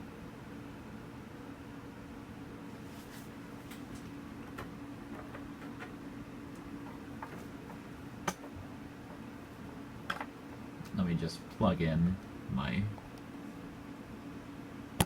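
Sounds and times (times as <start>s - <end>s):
desktop computer humming: 0.0s - 15.0s.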